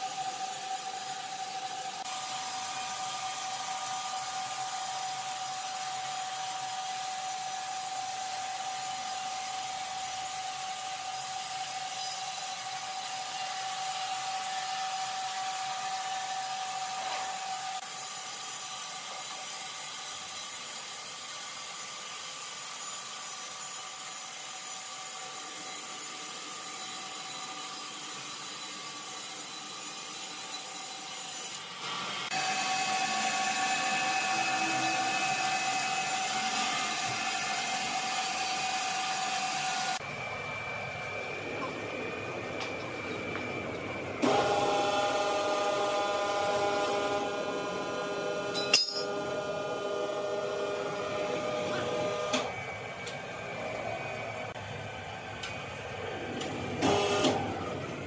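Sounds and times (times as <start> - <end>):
sawmill whine: 0.0 - 21.6, 22.2 - 58.0.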